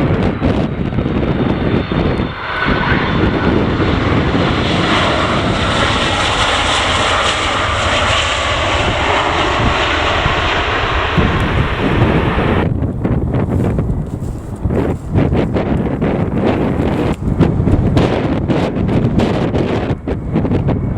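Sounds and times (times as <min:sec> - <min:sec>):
airliner engines overhead: 0:00.0 - 0:20.9
wind rumbling on microphone: 0:00.0 - 0:20.9.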